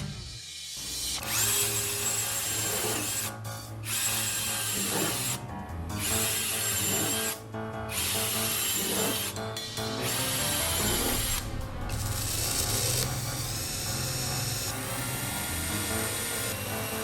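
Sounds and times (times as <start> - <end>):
power drill whining: 0.0 - 5.4, 6.0 - 9.4, 10.0 - 17.0.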